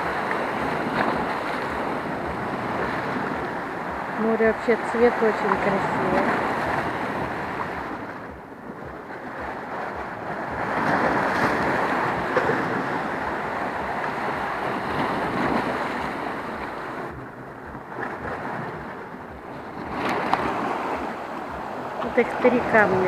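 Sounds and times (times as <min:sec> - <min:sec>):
sea waves washing against rocks: 0:00.0 - 0:23.0.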